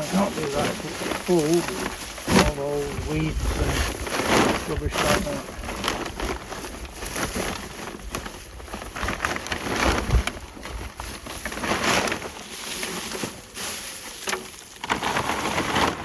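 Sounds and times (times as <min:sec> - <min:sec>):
weeds and rubbish rustling: 0:00.0 - 0:16.0.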